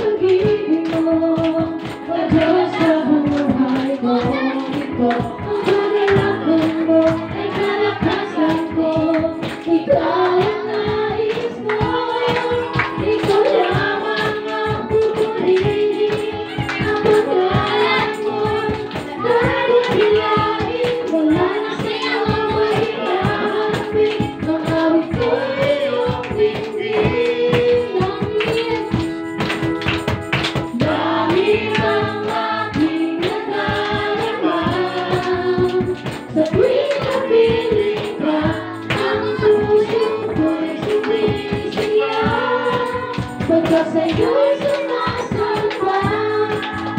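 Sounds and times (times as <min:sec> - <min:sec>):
band strumming: 0:00.0 - 0:46.9
group singing worship song: 0:00.0 - 0:46.9
tambourine: 0:00.0 - 0:46.9.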